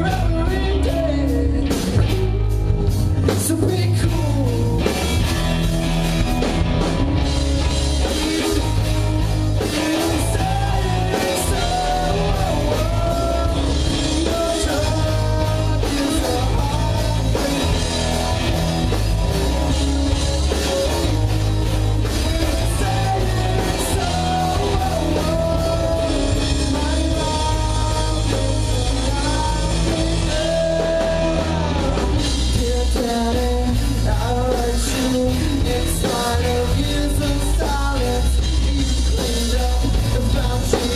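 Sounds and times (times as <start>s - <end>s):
person singing: 0.0s - 5.6s, 7.4s - 40.9s
drums: 0.0s - 40.9s
guitar: 0.0s - 40.9s
heavy bass line: 0.0s - 40.9s.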